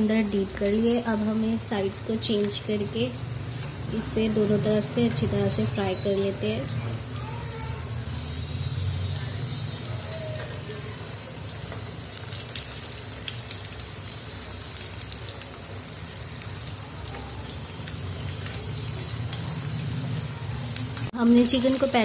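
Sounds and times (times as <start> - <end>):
chicken deep-frying in oil: 0.0 - 22.0.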